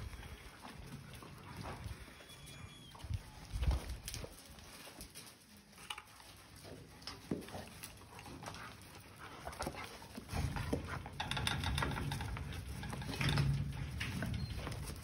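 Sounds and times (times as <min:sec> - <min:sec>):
paws scrabbling at chain-link fence: 0:00.0 - 0:15.0.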